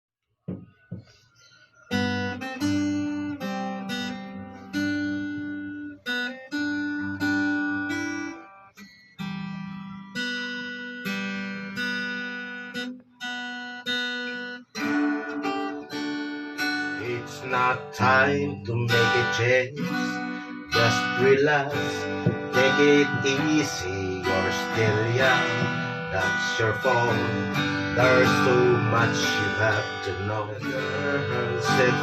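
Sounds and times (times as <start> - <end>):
acoustic guitar strumming chords: 0.5 - 32.0.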